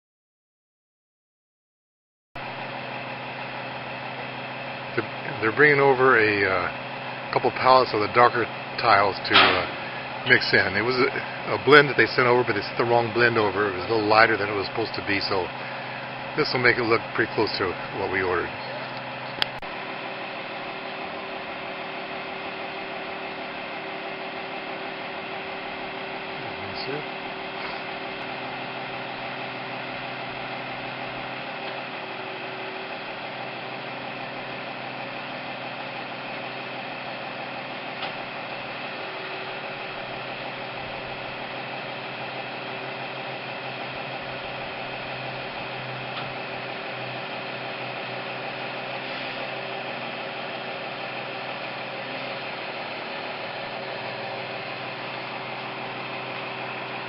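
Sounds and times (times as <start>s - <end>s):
engine running steadily: 2.4s - 57.0s.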